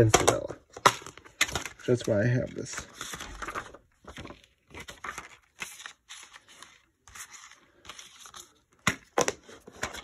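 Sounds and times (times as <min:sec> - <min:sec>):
paper insert rustling: 0:00.7 - 0:10.0.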